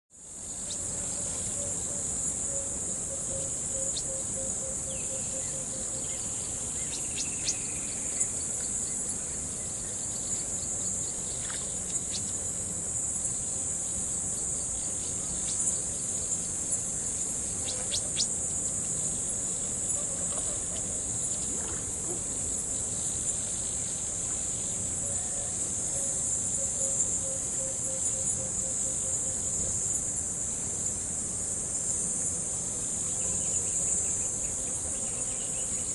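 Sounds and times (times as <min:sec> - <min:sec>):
crickets trilling: 0:00.2 - 0:35.9.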